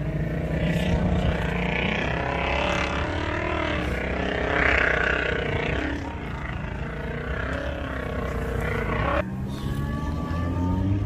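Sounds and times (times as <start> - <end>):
race car engine running: 0.0 - 11.0.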